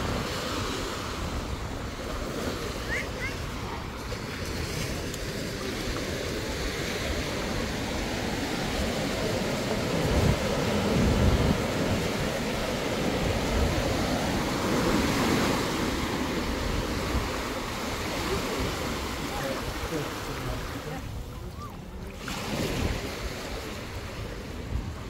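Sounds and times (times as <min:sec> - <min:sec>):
sea surf breaking on beach: 0:00.0 - 0:25.0.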